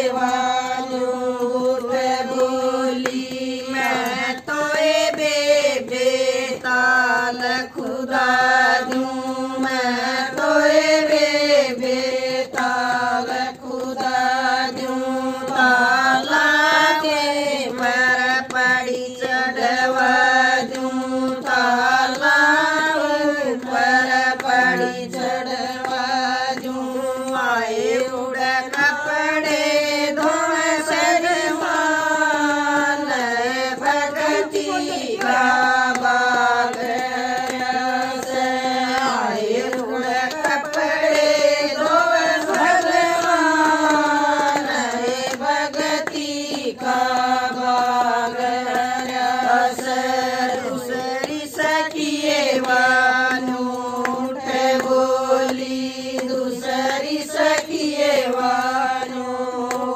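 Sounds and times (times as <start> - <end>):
hand claps: 0.0 - 59.9
women singing a devotional song: 0.0 - 59.9.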